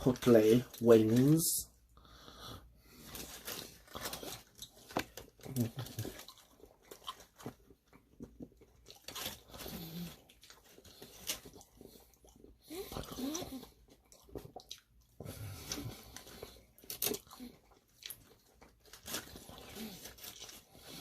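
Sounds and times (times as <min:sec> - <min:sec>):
mouth chewing and crunching: 0:02.8 - 0:21.0.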